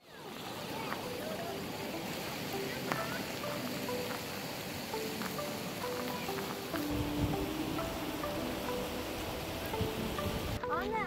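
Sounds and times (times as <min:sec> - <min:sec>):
noisy hiss: 0:00.0 - 0:11.0
light melody of short notes: 0:01.0 - 0:11.0.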